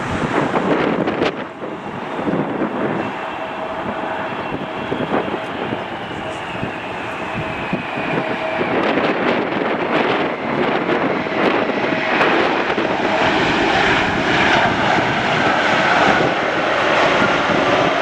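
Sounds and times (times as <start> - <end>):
high jet whine: 0.0 - 18.0
jet engines at takeoff power: 0.0 - 18.0.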